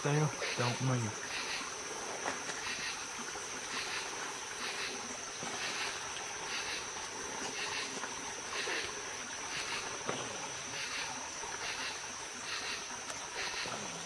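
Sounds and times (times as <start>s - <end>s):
insects trilling: 0.0s - 14.0s
pulsing insect call: 0.0s - 14.0s.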